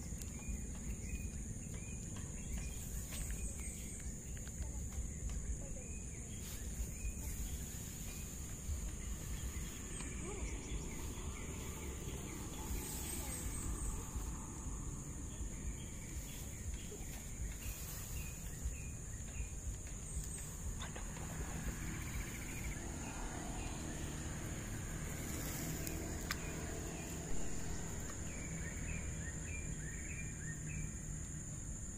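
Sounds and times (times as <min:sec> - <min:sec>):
faint chirps: 0:00.0 - 0:31.9
low rumbling: 0:00.0 - 0:31.9.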